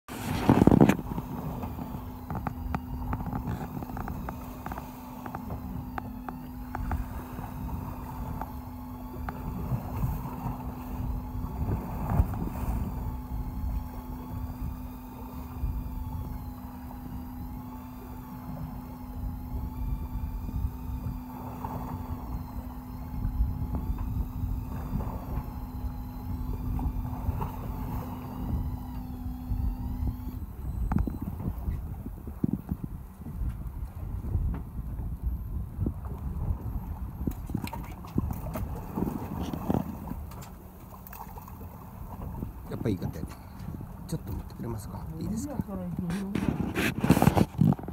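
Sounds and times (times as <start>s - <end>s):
boat engine hum: 0.0s - 47.9s
electric fishing reel motor whine: 0.1s - 47.9s.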